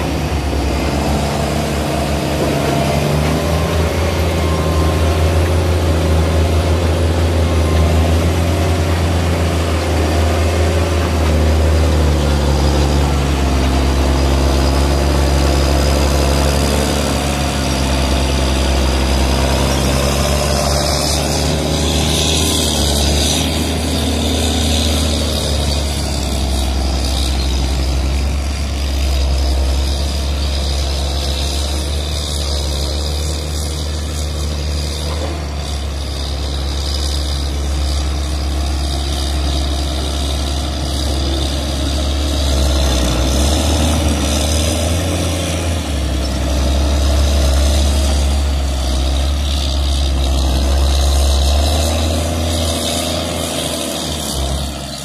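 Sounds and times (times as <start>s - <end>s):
diesel engine rumbling under load: 0.0s - 55.0s.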